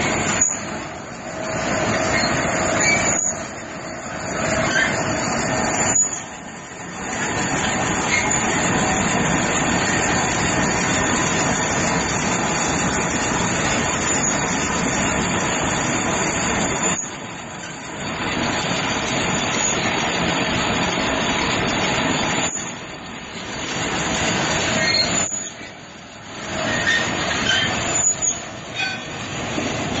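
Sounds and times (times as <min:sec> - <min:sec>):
dicing machine running: 0:00.0 - 0:30.0.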